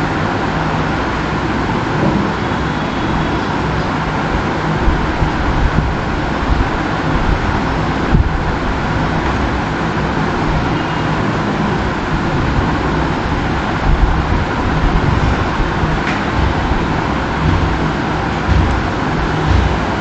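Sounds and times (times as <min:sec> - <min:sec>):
steady hiss and low rumble: 0:00.0 - 0:20.0.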